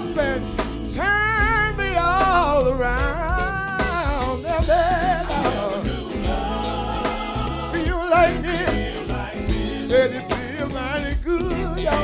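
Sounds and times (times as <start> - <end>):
band with keyboard and drums: 0.0 - 12.0
man singing with vibrato: 0.0 - 12.0.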